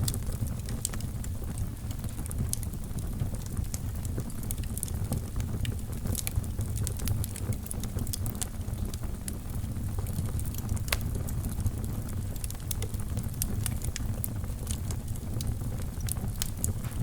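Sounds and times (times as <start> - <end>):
fire crackling and popping: 0.0 - 17.0
wood fire rumbling: 0.0 - 17.0.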